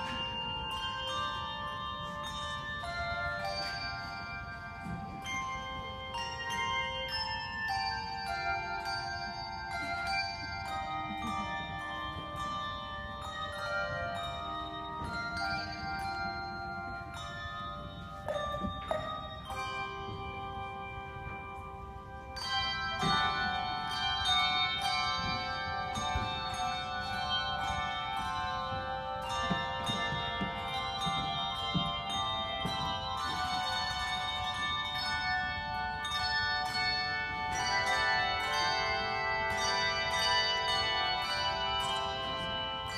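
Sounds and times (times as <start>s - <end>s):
handbell choir playing chords: 0.0s - 42.9s.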